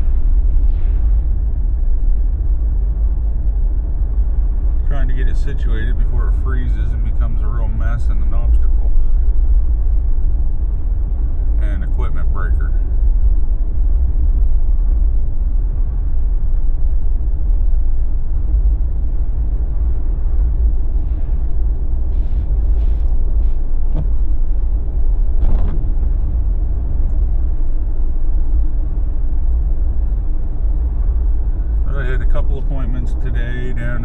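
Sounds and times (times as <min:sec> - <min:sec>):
road noise rumble inside car: 0:00.0 - 0:34.0.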